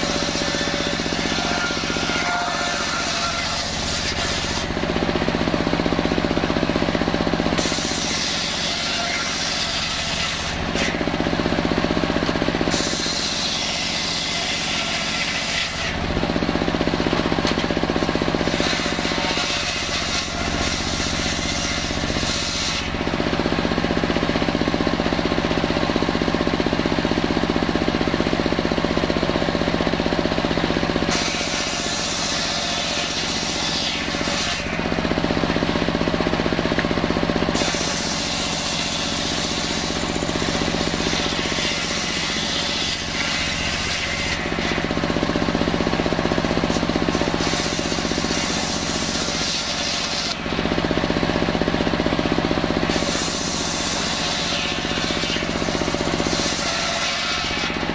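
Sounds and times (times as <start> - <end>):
circular saw cutting timber: 0.0 - 57.9.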